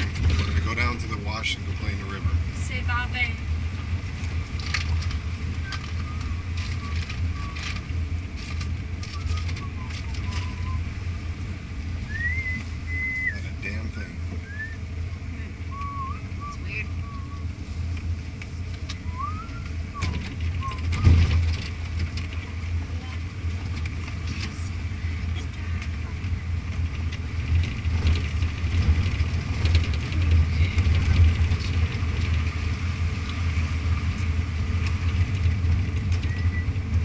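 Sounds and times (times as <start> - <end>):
tyres rumbling on dirt road: 0.0 - 37.0
vehicle engine droning: 0.0 - 37.0.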